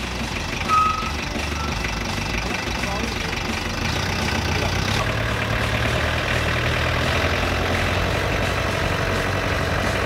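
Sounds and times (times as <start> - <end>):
forklift engine running: 0.0 - 10.0.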